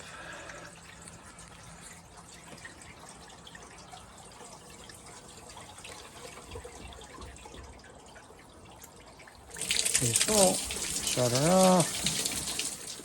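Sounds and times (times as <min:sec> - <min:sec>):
water trickling into a tank: 0:00.0 - 0:13.0
water dripping ticks: 0:00.6 - 0:13.0.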